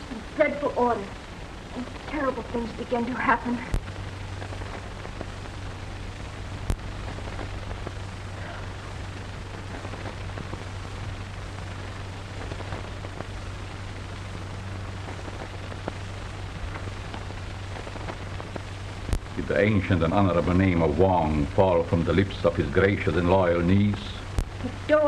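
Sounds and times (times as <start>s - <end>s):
film soundtrack hiss and crackle: 0.0s - 25.0s
steady low hum: 0.0s - 25.0s.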